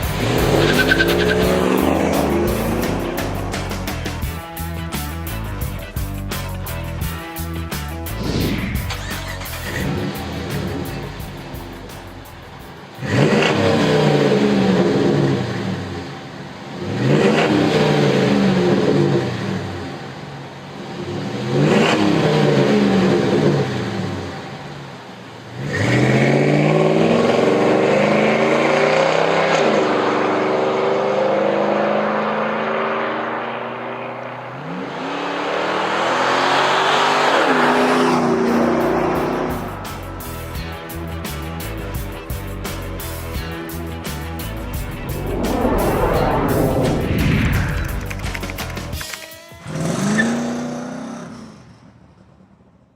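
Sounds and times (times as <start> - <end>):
car engine revving: 0.0 - 6.0, 7.9 - 20.2, 25.4 - 40.9, 41.5 - 52.4.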